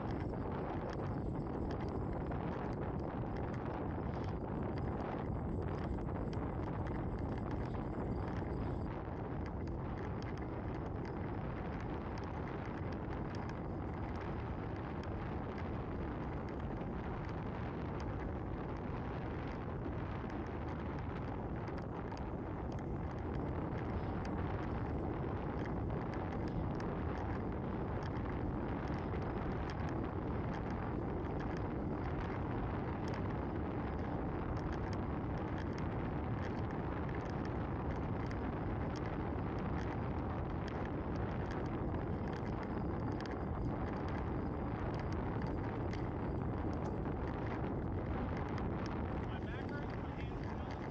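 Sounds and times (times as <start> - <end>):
bicycle rolling on asphalt: 0.0 - 50.9
faint clicks: 0.0 - 50.9
wind rushing over microphone: 0.0 - 50.9.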